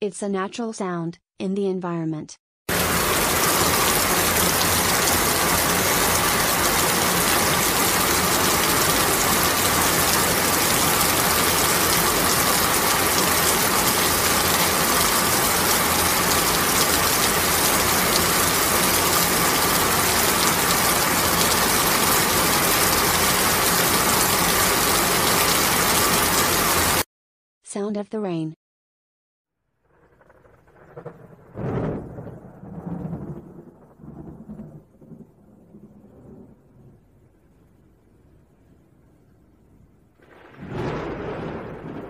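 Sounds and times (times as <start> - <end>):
rain falling: 2.7 - 27.0, 30.2 - 37.8, 40.2 - 42.0.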